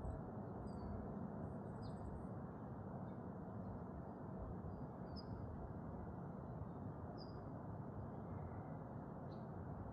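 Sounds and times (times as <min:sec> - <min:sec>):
outdoor ambient noise: 0:00.0 - 0:09.9.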